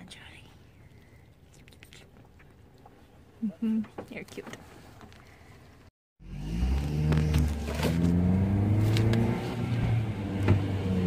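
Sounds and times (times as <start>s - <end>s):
car engine and road noise: 2.0s - 11.0s.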